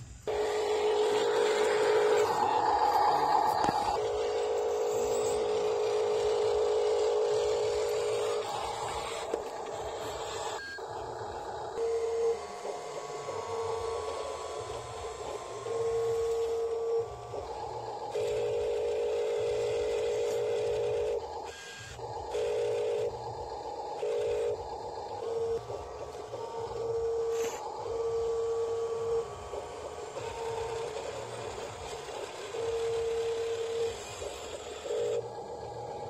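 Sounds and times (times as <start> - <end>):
electric motor whining in bursts: 0.0 - 36.0.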